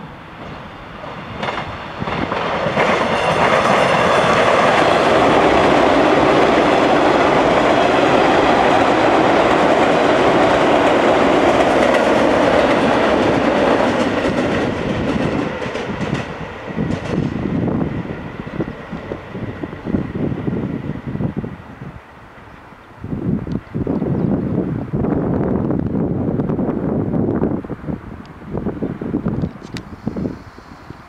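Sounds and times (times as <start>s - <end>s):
electric train passing: 0.0s - 31.0s.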